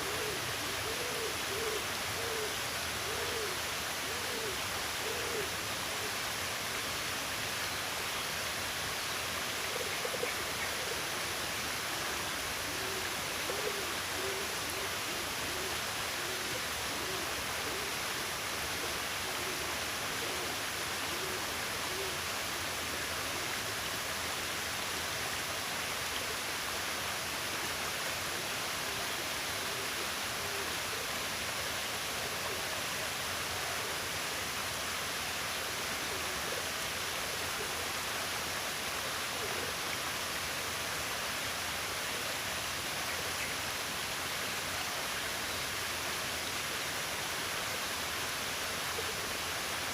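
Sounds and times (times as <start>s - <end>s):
running water rushing: 0.0s - 49.9s.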